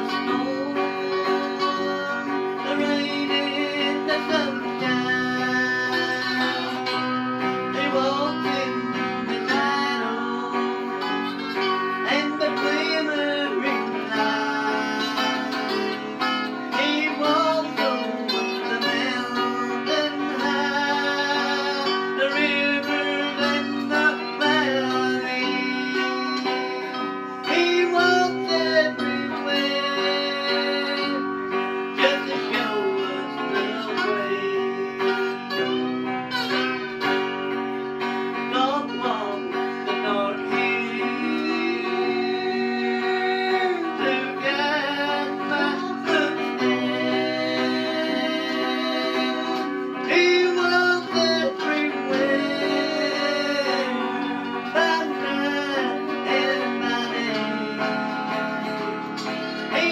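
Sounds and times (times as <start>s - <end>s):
electric guitar with bent notes: 0.0s - 59.9s.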